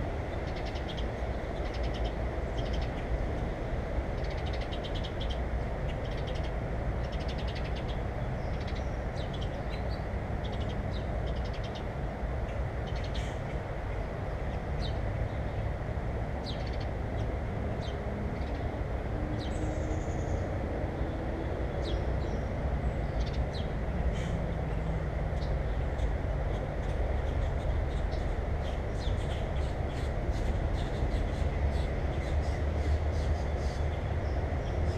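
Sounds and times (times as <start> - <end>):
small birds chirping: 0.3 - 3.1, 4.2 - 15.8, 16.4 - 18.7, 21.7 - 34.9.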